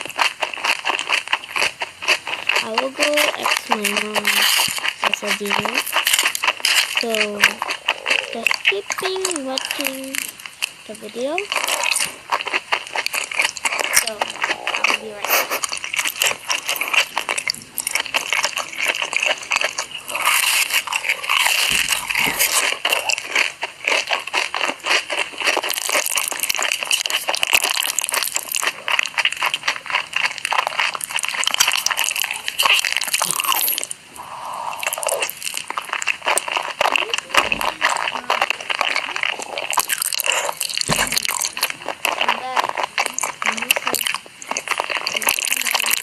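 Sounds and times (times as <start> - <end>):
crunchy eating and chewing: 0.0 - 46.0.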